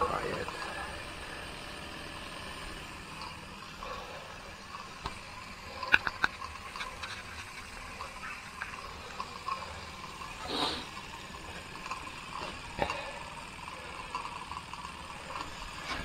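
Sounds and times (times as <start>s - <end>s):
steam engine hissing: 0.0s - 16.0s.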